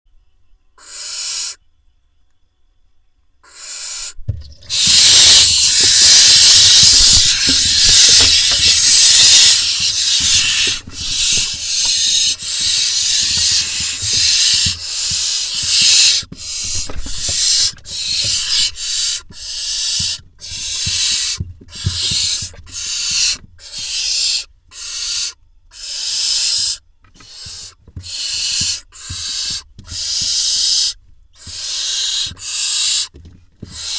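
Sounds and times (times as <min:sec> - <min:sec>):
owl nestlings hissing: 0:00.8 - 0:01.6, 0:03.4 - 0:33.9.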